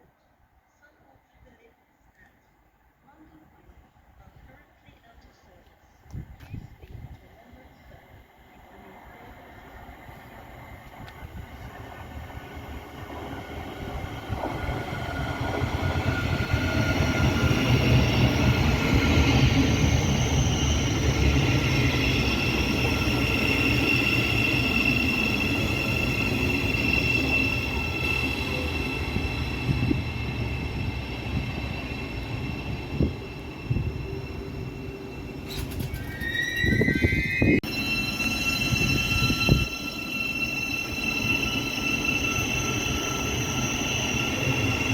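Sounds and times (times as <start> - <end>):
train rumble: 3.0 - 44.9
wheels whining on rails: 6.1 - 44.9.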